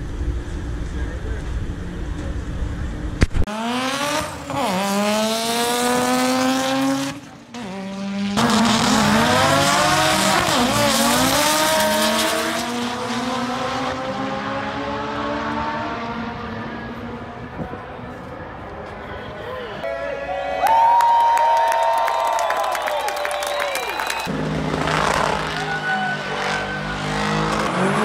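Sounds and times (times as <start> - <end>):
car engine revving: 0.0 - 18.9, 24.3 - 28.0.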